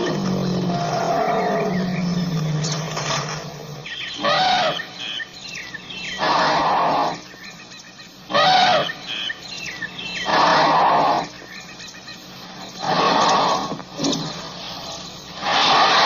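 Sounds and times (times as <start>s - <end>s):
elephant calls: 0.0s - 7.3s, 8.2s - 11.4s, 12.8s - 16.0s
birds chirping faintly: 0.0s - 16.0s.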